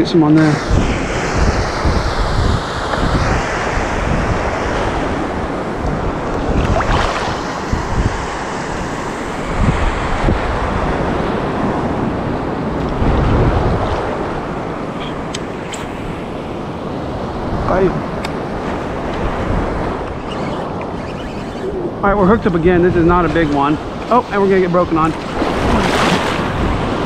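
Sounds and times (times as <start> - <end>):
ocean surf breaking: 0.0 - 27.0
wind rumbling on microphone: 0.0 - 27.0.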